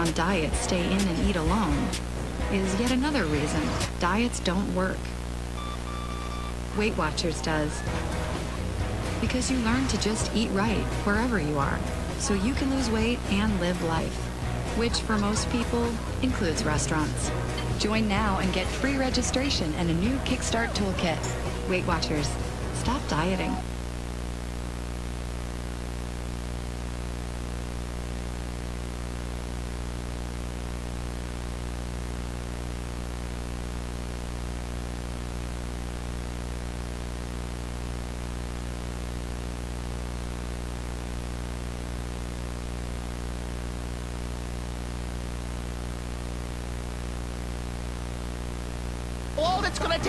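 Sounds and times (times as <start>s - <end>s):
electrical hum: 0.0s - 50.0s
static hiss: 0.0s - 50.0s.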